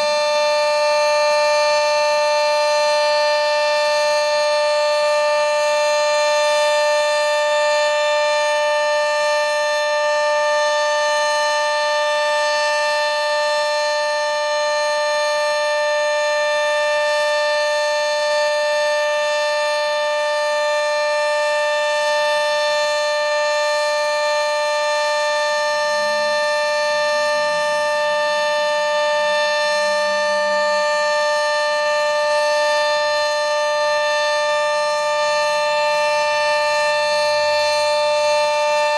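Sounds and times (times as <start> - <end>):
two-tone warning siren: 0.0 - 38.9.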